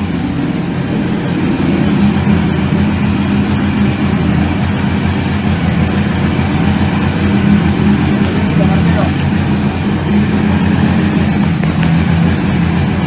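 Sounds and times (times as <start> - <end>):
engine idling with pulsing exhaust: 0.0 - 13.0.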